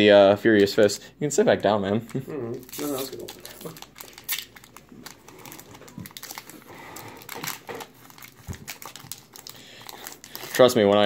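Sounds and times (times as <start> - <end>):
foil wrapper crinkling: 2.1 - 11.0.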